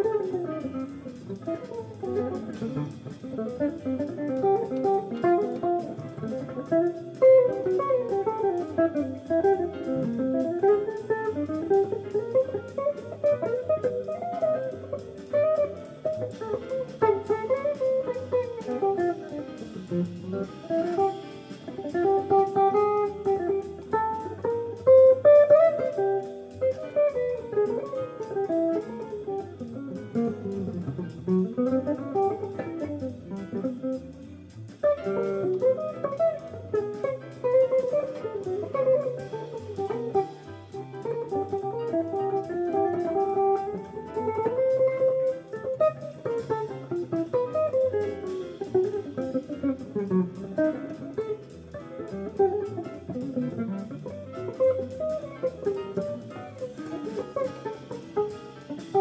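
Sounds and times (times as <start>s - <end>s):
jazz electric guitar lines: 0.0s - 59.0s.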